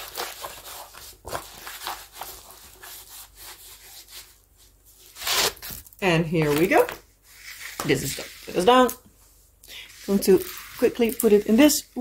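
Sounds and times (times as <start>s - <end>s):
canvas and plastic film rustling: 0.0s - 3.4s, 4.0s - 8.9s, 10.0s - 12.0s.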